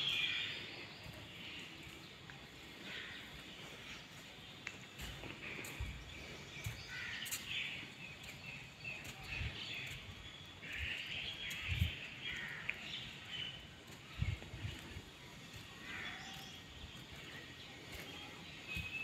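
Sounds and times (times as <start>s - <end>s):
birds chattering: 0.0s - 19.0s.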